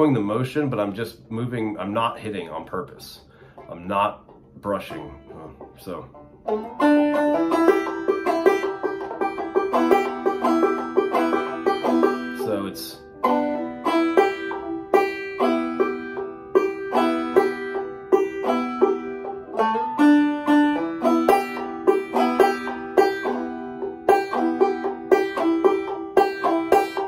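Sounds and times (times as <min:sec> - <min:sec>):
banjo playing: 0:00.0 - 0:27.0.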